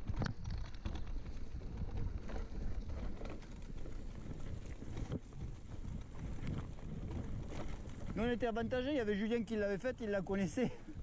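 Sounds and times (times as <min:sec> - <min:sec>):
wind on microphone: 0:00.0 - 0:08.8
bike rattling over stones: 0:00.0 - 0:11.0
tyres rumbling on stony trail: 0:00.0 - 0:11.0.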